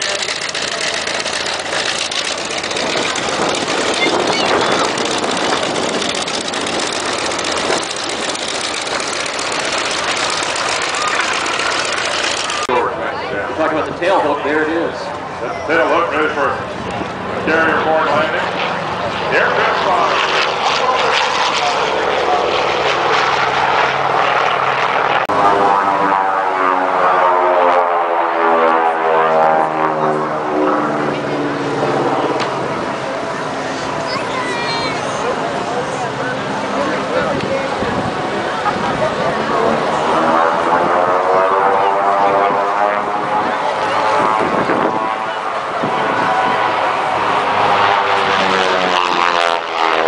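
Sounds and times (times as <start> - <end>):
jet engine rushing: 0.0 - 50.0.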